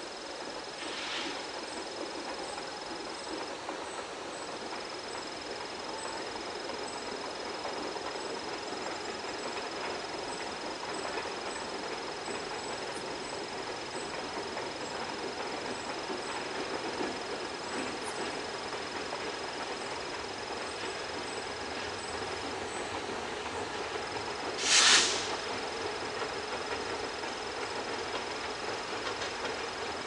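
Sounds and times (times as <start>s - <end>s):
train wheels rolling on rails: 0.0s - 30.0s.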